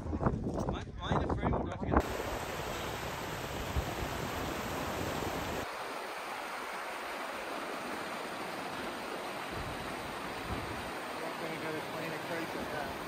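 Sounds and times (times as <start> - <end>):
stream rushing over boulders: 2.0 - 13.0.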